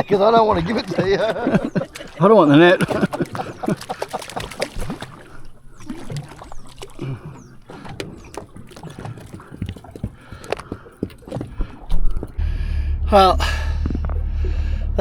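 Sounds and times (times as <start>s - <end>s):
water lapping against hull: 0.0s - 12.4s.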